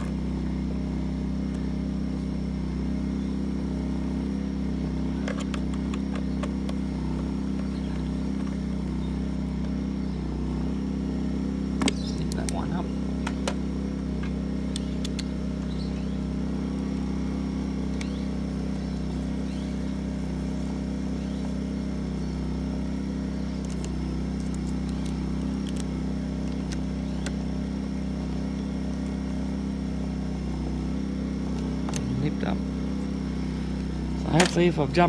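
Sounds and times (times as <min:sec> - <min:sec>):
petrol generator humming: 0:00.0 - 0:35.0.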